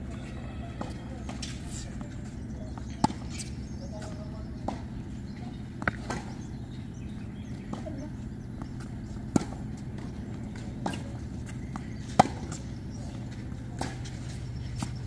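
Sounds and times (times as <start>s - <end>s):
tennis ball hitting rackets: 0.8s - 15.0s.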